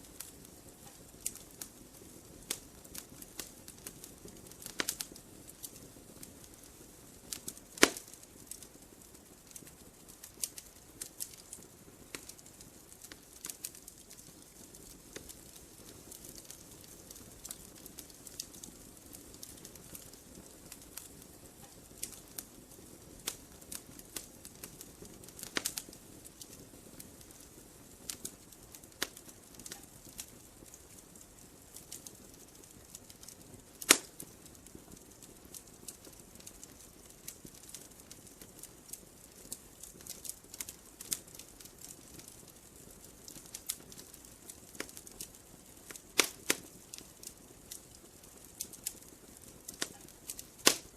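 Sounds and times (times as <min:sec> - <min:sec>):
fire hissing: 0:00.0 - 0:50.9
wood fire crackling and popping: 0:00.0 - 0:50.9.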